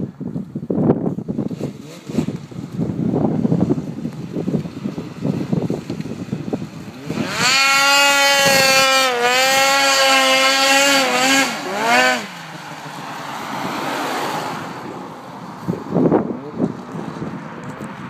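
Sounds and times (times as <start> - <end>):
snowmobile engine revving: 1.3 - 17.6.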